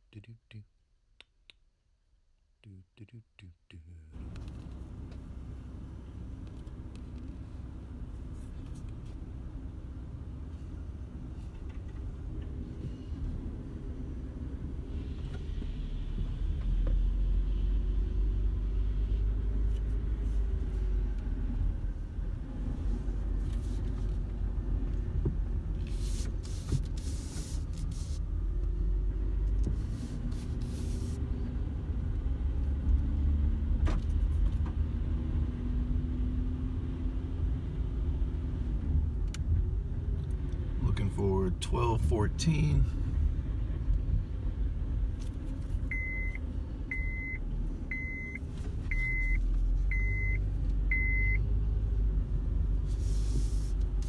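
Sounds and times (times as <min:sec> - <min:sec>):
low road rumble: 0:02.6 - 0:54.0
car engine hum: 0:03.8 - 0:54.0.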